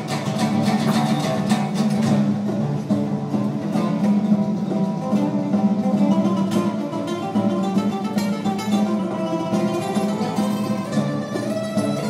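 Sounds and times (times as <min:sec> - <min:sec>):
solo classical guitar: 0:00.0 - 0:12.0.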